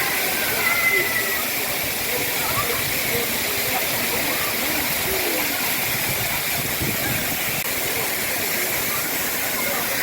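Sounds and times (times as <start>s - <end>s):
waterfall splashing: 0.0s - 10.0s.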